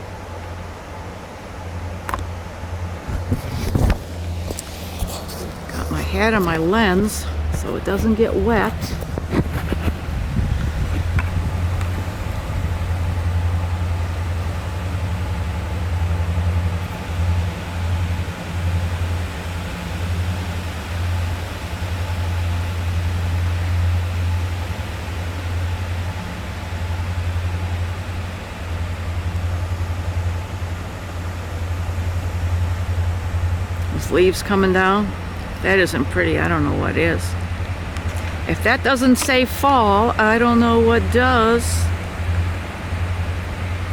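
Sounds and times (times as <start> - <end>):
engine running: 0.0 - 43.9
rain hissing: 1.6 - 43.9.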